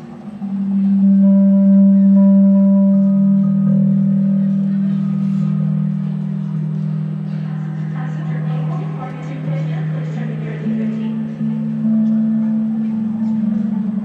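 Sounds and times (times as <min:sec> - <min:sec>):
low ringing drone tone: 0:00.0 - 0:14.0.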